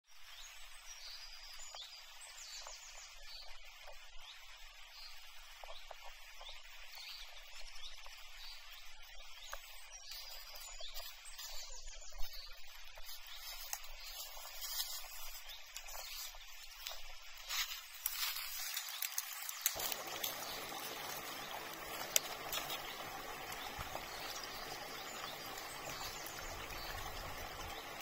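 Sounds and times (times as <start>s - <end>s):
birds chirping: 0.3s - 28.0s
steady hiss: 0.3s - 28.0s.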